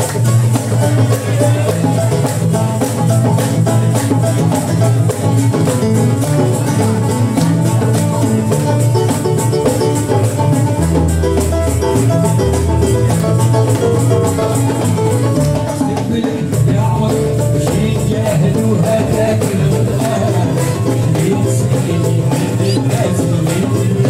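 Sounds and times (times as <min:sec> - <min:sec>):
live band dance music: 0:00.0 - 0:24.0
percussion beat: 0:00.0 - 0:24.0.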